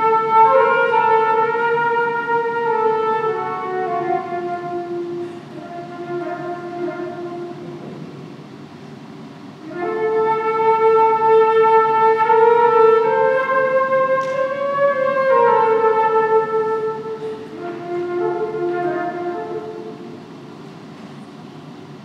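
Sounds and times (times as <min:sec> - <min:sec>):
solo flute long held notes: 0:00.0 - 0:08.4, 0:09.5 - 0:21.7.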